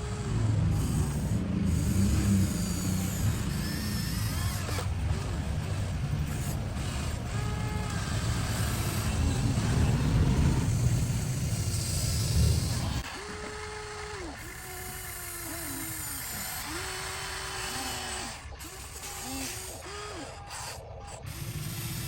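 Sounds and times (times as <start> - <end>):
motors whining: 0.0 - 22.0.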